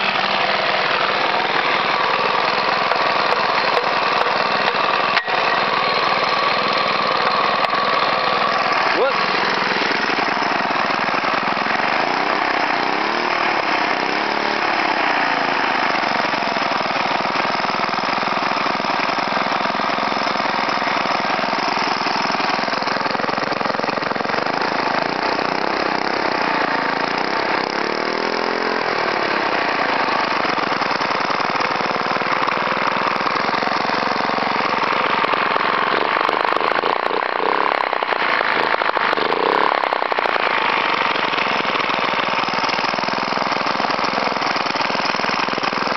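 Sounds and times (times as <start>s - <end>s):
small mower engine running: 0.0s - 45.9s.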